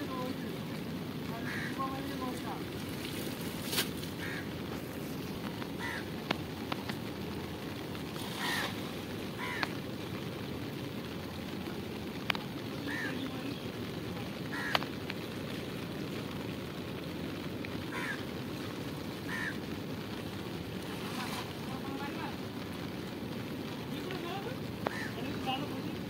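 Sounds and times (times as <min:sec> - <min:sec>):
water: 0:00.0 - 0:26.0
wind: 0:00.0 - 0:26.0.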